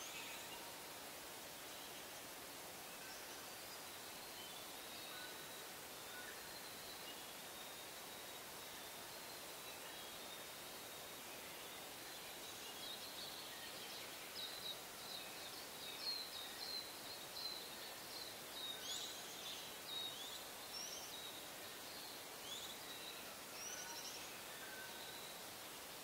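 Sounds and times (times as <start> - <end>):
outdoor hiss: 0.0 - 26.0.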